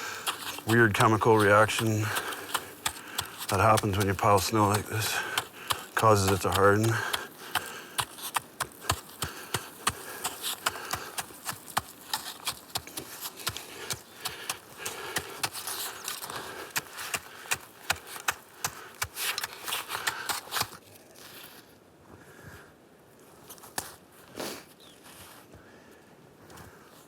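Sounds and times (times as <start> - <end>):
snow crunching and scraping: 0.0 - 21.8.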